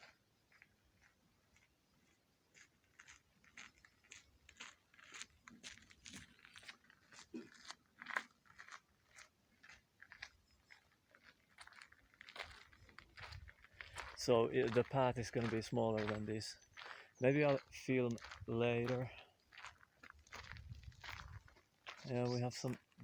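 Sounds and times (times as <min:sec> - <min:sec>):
faint footsteps on forest path: 0:00.0 - 0:23.0.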